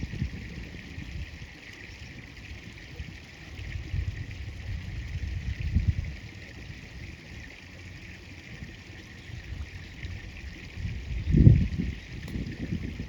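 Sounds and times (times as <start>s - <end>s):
wind buffeting microphone: 0.0s - 2.4s, 3.0s - 7.1s, 8.5s - 13.0s
river water flowing: 0.0s - 13.0s.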